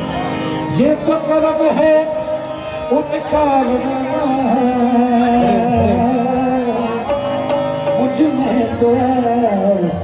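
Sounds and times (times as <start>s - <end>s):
instrumental accompaniment: 0.0s - 10.0s.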